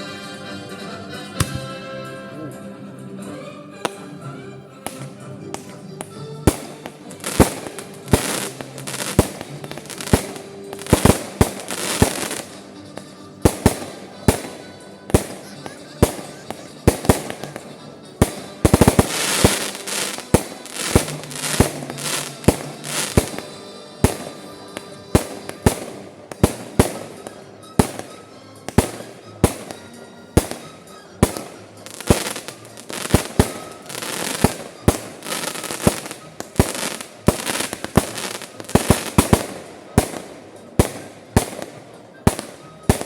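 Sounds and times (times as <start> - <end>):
rattling fireworks volley: 1.4 - 1.8, 3.8 - 43.0
fireworks shells bursting: 4.9 - 43.0.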